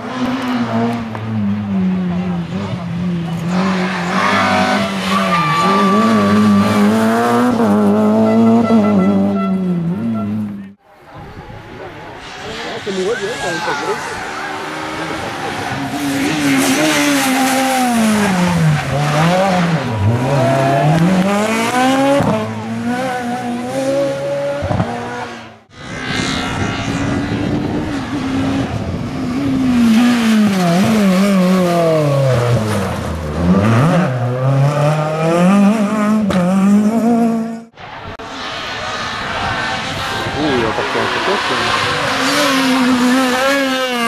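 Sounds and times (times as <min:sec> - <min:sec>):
rally car engine revving: 0:00.0 - 0:10.8, 0:12.2 - 0:44.0.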